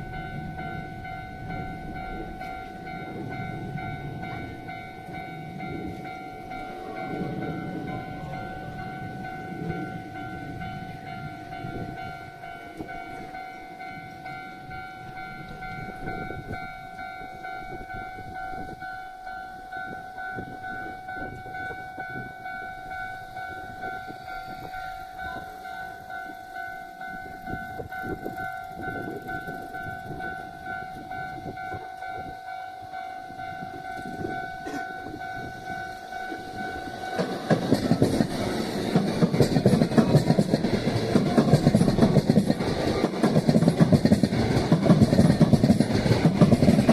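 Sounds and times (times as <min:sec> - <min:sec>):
electric train rumbling past: 0:00.0 - 0:46.9
level crossing warning bell: 0:00.0 - 0:46.9
wheels clattering on rails: 0:00.0 - 0:46.9.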